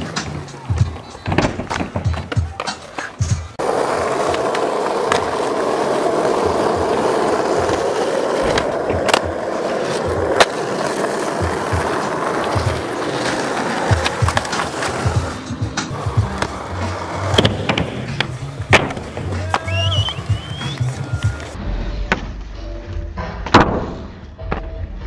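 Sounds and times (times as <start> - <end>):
skateboard clacks: 0.0 - 21.6
skateboard wheels rolling on concrete: 0.0 - 23.0.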